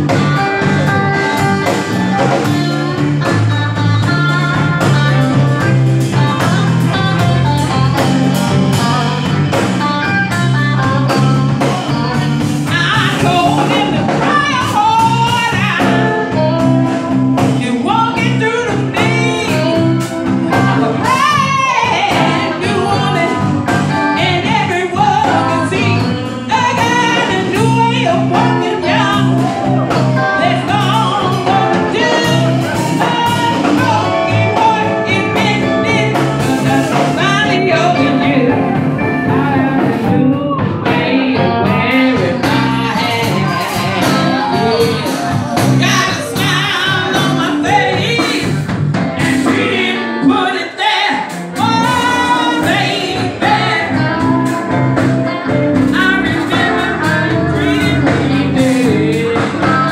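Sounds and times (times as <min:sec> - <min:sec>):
drum kit: 0:00.0 - 0:59.9
electric bass guitar: 0:00.0 - 0:59.9
lead melody line: 0:00.0 - 0:59.9.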